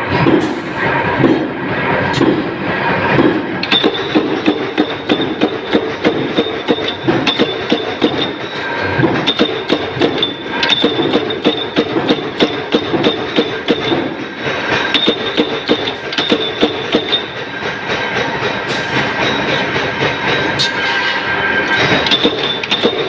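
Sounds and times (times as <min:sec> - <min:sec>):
machine running noise: 0:00.0 - 0:23.0.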